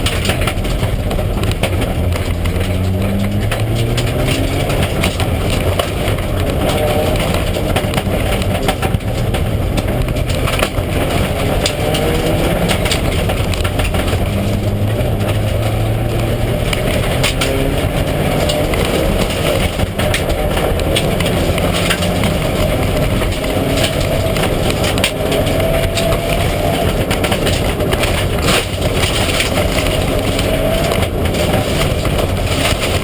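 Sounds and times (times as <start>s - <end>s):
rally car engine revving hard: 0.0s - 33.0s
sharp clicks and knocks: 0.0s - 33.0s.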